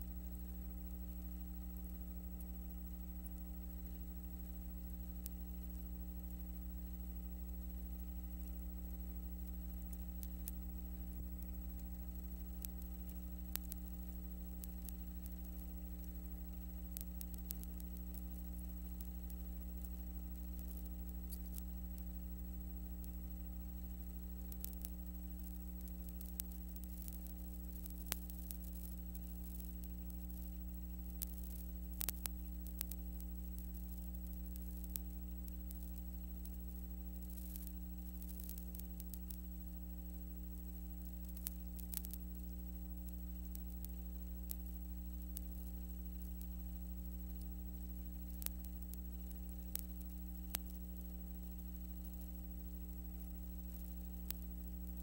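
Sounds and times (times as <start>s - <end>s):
clicks and crackles: 0.0s - 55.0s
electrical mains hum: 0.0s - 55.0s
faint hiss: 0.0s - 55.0s.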